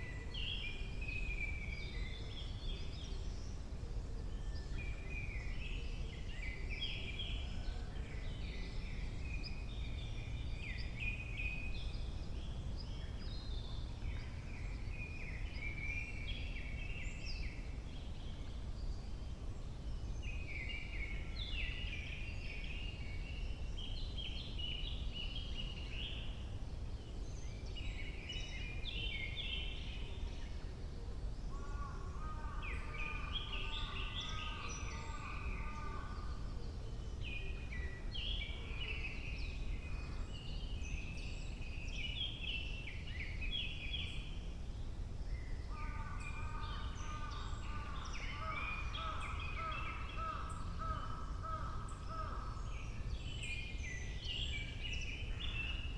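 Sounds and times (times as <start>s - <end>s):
songbirds singing: 0.0s - 55.9s.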